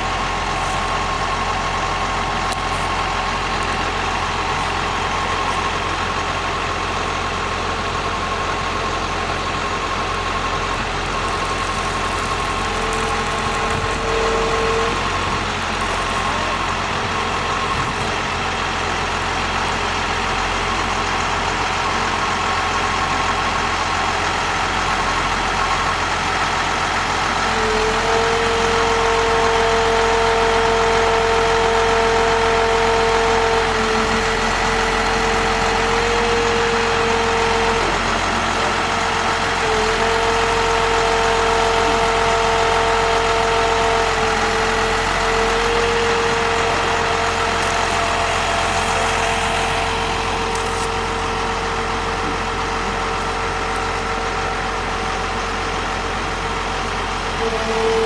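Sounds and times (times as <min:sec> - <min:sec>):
small engine running: 0:00.0 - 0:58.0
strong steady whine: 0:00.0 - 0:58.0.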